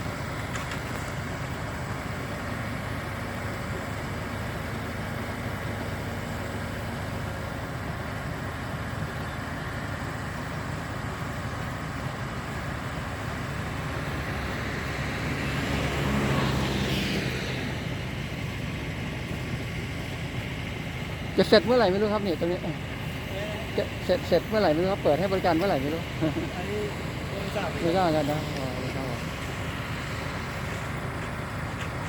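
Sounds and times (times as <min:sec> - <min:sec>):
diesel machinery running: 0:00.0 - 0:32.0
louder engine sound: 0:00.0 - 0:32.0.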